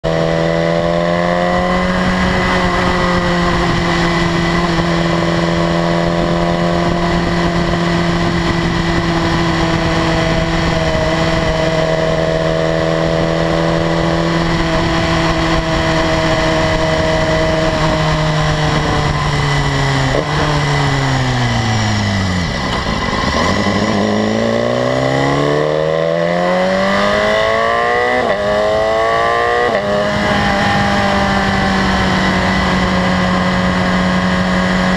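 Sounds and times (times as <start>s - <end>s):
motorcycle engine at cruising revs: 0.0s - 34.9s
wind rush: 0.0s - 34.9s.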